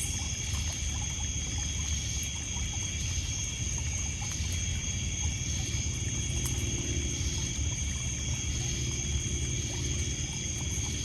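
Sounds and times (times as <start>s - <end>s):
crickets and night insects: 0.0s - 11.0s.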